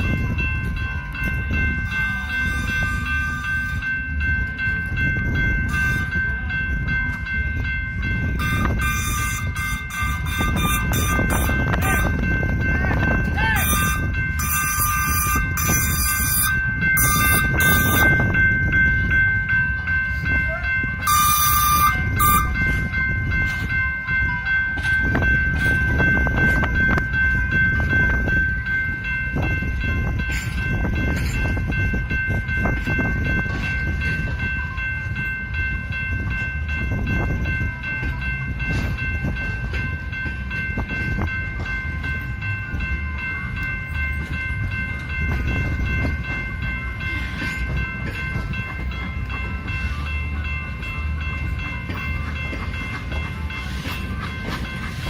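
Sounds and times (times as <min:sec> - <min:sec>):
train rolling low rumble: 0:00.0 - 0:55.0
wheels clicking over rail joints: 0:00.0 - 0:55.0.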